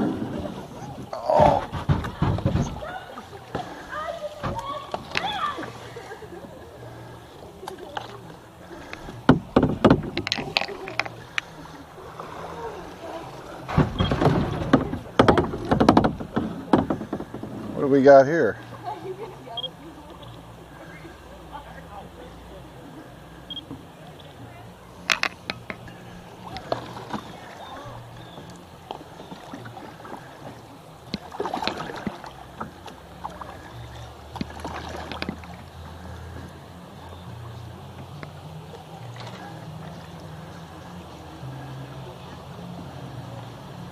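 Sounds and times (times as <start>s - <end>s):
paddle knocking and splashing: 0.0s - 21.0s, 23.6s - 36.6s, 37.4s - 41.8s
river water washing: 0.0s - 43.9s.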